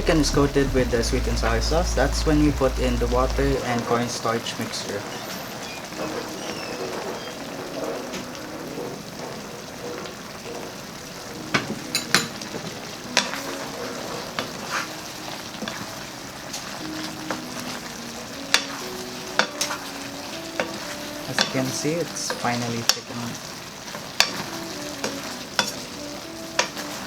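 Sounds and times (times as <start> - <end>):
chicken sizzling in sauce: 0.0 - 27.0.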